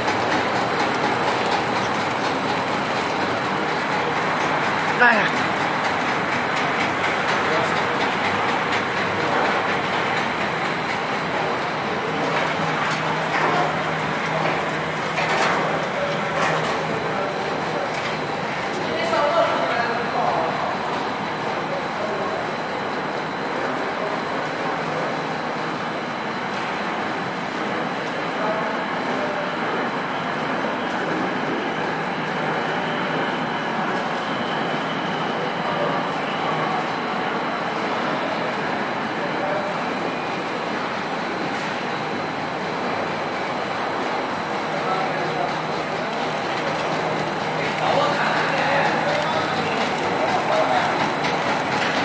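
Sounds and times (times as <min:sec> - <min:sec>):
production line machinery din: 0:00.0 - 0:52.0.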